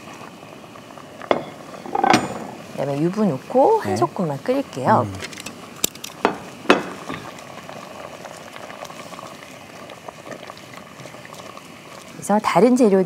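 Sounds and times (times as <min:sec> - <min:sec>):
soup bubbling and popping: 0:00.0 - 0:03.5, 0:05.2 - 0:12.2.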